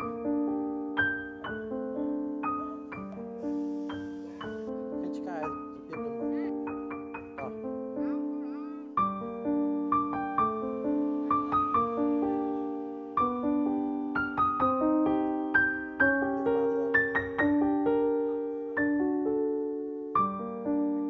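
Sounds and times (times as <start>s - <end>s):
slow piano melody: 0.0s - 21.0s.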